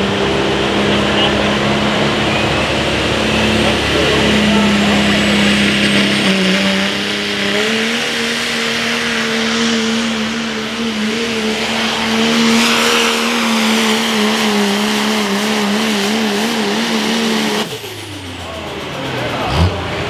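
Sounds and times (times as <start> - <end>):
diesel truck engine at full throttle: 0.0 - 20.0.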